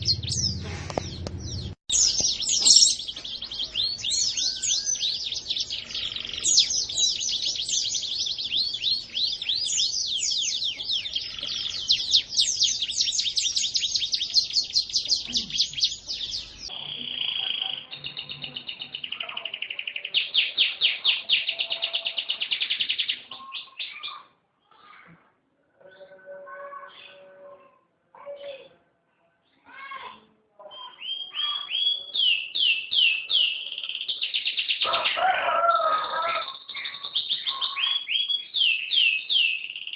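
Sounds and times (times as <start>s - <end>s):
canary singing: 0.0s - 24.3s, 30.6s - 39.9s.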